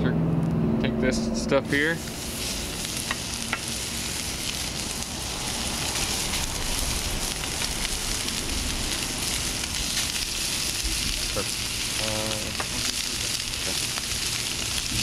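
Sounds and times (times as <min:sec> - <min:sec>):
bacon sizzling in a pan: 0:01.7 - 0:15.0.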